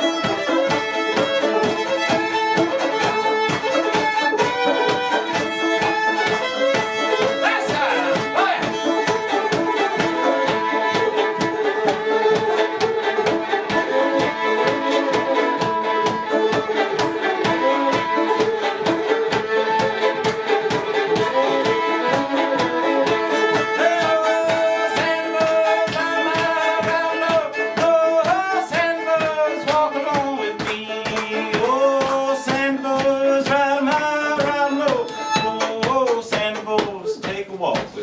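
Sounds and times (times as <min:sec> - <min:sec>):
fiddle melody: 0:00.0 - 0:38.0
rhythmic accompaniment: 0:00.0 - 0:38.0.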